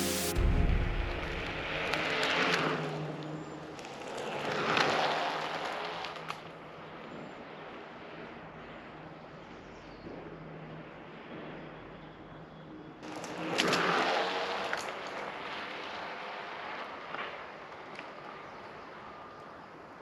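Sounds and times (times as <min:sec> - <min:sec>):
wind and road noise: 0:00.0 - 0:11.8, 0:13.0 - 0:20.0.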